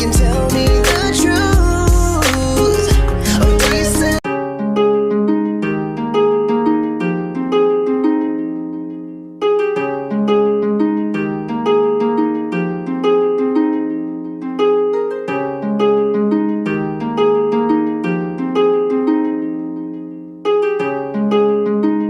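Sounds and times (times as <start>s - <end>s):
plucked harp arpeggios: 0.0s - 22.0s.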